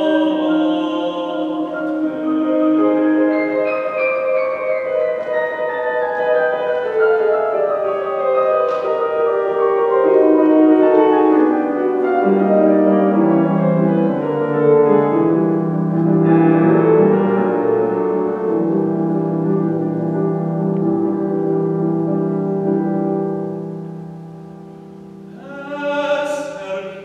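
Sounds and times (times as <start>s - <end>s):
grand piano playing: 0.0s - 27.0s.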